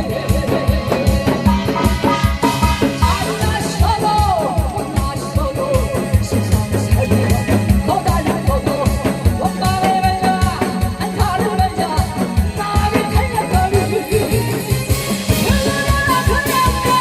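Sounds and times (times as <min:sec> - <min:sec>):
backing track with drum beat: 0:00.0 - 0:17.0
person singing: 0:00.0 - 0:17.0.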